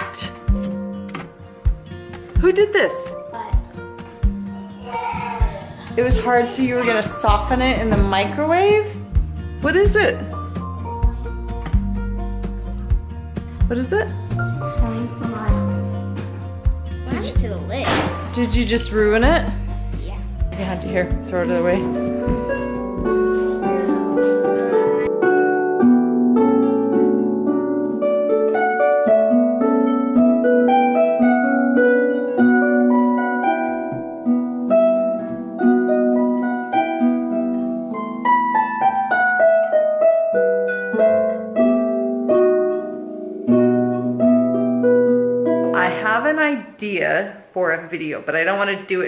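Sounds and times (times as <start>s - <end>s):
harp plucked melody: 0.0s - 46.4s.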